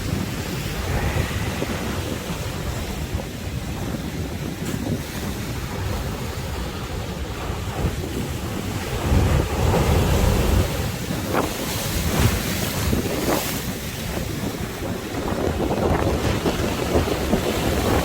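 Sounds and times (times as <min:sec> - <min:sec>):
sea waves surging: 0:00.0 - 0:18.0
wind buffeting microphone: 0:00.0 - 0:18.0.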